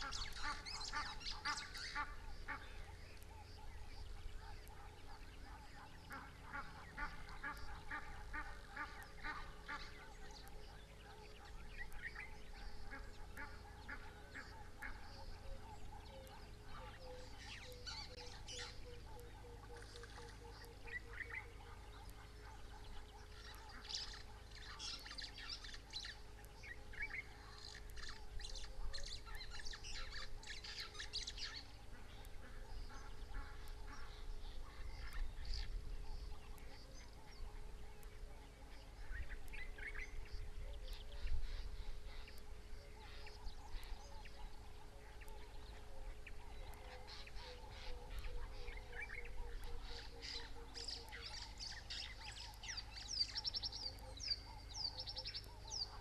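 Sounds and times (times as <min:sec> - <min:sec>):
birds chirping: 0:00.0 - 0:56.0
faint hum and low rumble: 0:00.0 - 0:56.0.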